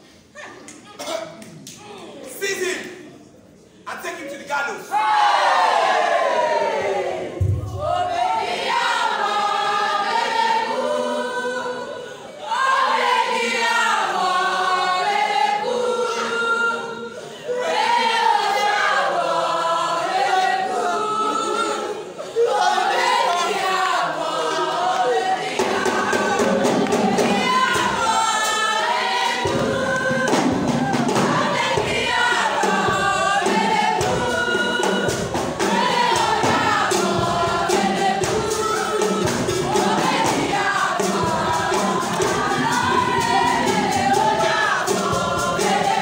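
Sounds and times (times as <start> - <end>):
choir singing: 4.8 - 46.0.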